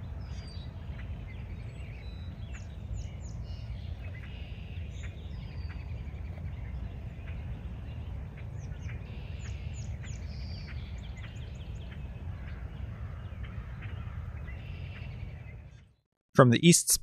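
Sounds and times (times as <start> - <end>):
birds giving sharp call notes: 0.0 - 15.8
low outdoor rumble: 0.0 - 15.8.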